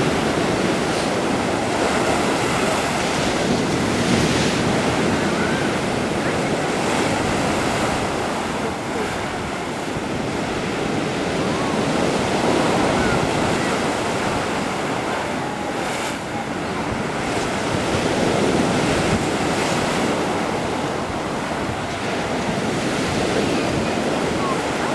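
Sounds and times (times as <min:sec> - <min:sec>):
surf washing onto shore: 0:00.0 - 0:24.9
wind buffeting microphone: 0:00.0 - 0:24.9.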